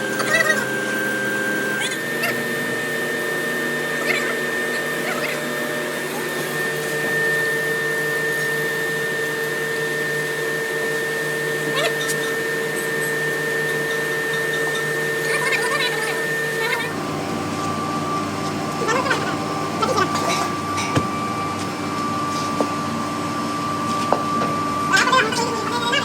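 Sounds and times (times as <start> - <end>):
workshop machinery hum and whine: 0.0 - 26.0.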